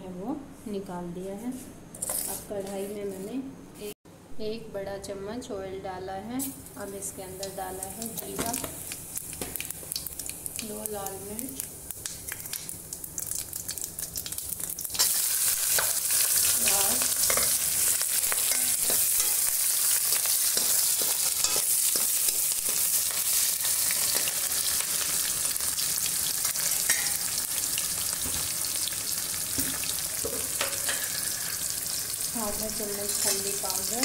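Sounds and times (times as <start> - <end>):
oil sizzling: 6.5 - 34.0.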